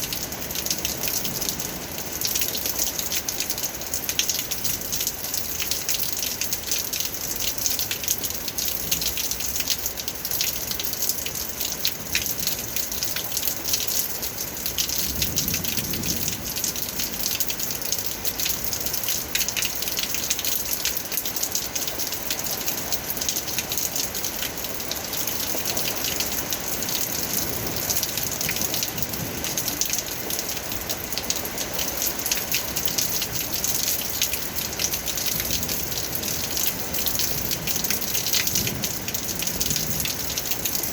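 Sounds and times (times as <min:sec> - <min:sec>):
rain drops pattering: 0:00.0 - 0:40.9.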